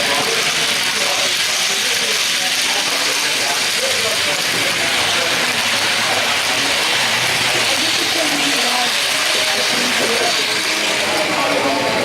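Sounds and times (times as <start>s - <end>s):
people talking indistinctly: 0.0s - 12.0s.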